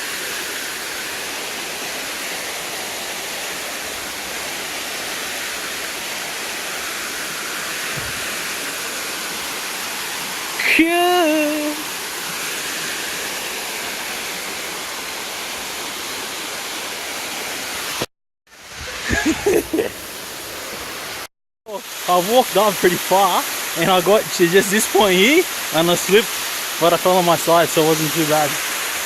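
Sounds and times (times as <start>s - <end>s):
waterfall and creek rushing: 0.0s - 29.0s.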